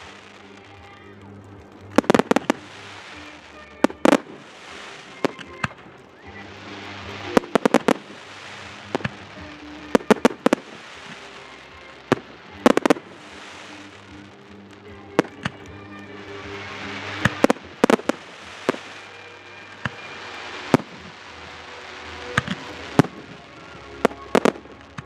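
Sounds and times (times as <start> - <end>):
fireworks bursting with sharp bangs: 0.0 - 25.0
fireworks crackling hiss: 0.0 - 25.0.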